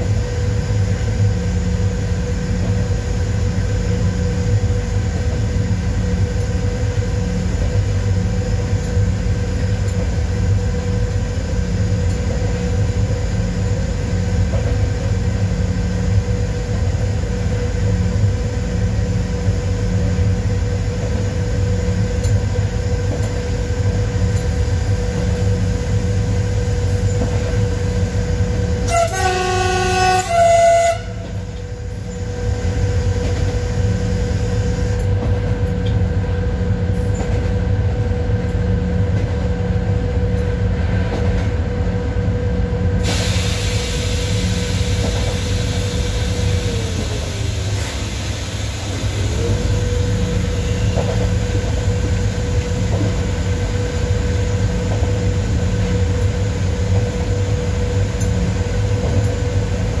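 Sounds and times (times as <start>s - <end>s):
locomotive machinery hum: 0.0s - 60.0s
wheels rumbling on rail: 0.0s - 60.0s.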